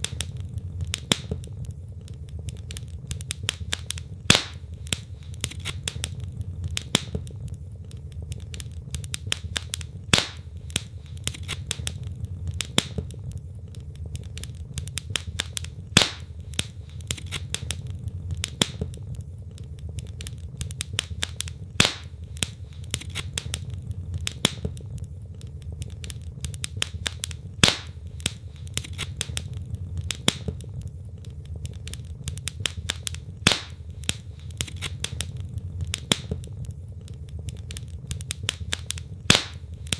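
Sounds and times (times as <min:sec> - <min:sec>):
fire popping: 0:00.0 - 0:39.9
low rumble of flames: 0:00.0 - 0:39.9
wood fire crackling: 0:00.0 - 0:39.9.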